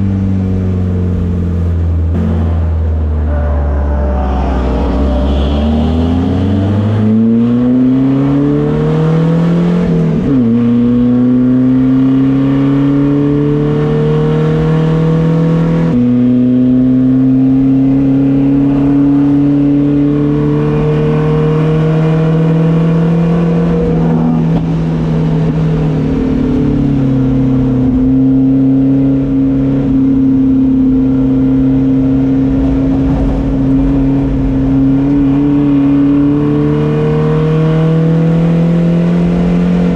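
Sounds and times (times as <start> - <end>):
race car engine accelerating: 1.6 - 39.9.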